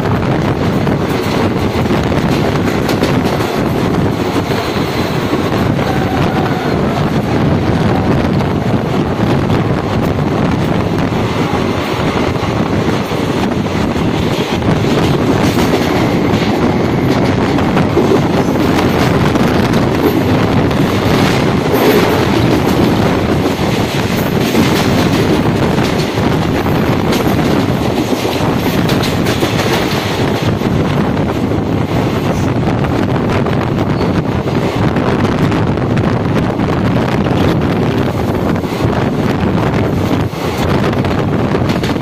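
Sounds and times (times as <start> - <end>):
clickety-clack over rail joints: 0.0 - 42.0
train wheels rumbling on rails: 0.0 - 42.0
wind buffeting microphone: 0.0 - 42.0.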